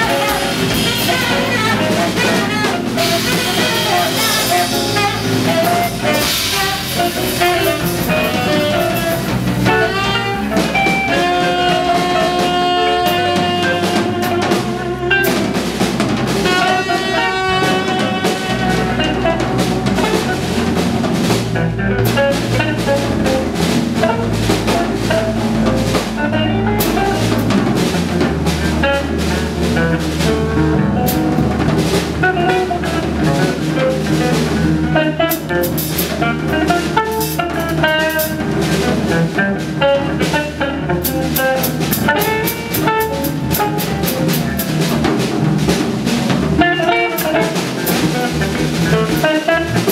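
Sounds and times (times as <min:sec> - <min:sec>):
drum kit: 0:00.0 - 0:49.9
electric bass: 0:00.0 - 0:49.9
electric guitar: 0:00.0 - 0:49.9
saxophone: 0:00.0 - 0:49.9.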